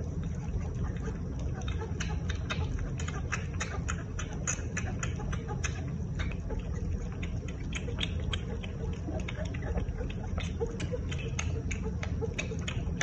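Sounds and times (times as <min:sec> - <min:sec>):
cat suckling from bottle: 0:00.0 - 0:13.0
steady low rumble: 0:00.0 - 0:13.0.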